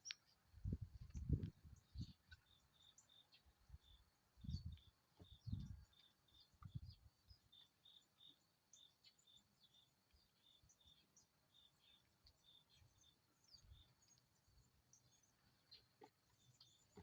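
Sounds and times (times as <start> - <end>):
bird chirps: 1.0 - 17.0.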